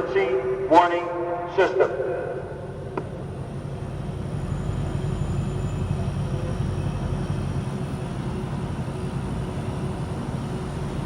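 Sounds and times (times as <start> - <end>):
road traffic rumble: 1.5 - 11.0.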